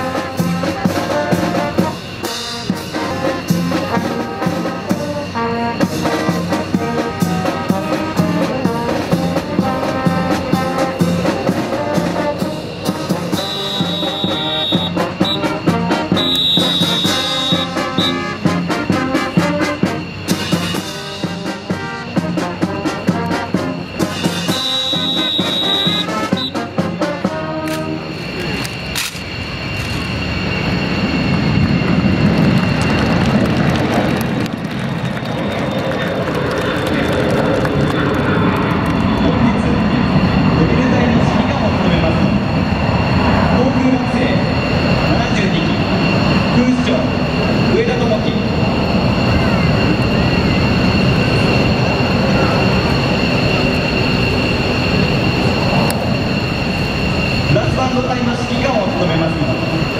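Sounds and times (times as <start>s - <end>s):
jet engine rumble and whine: 0.0s - 59.9s.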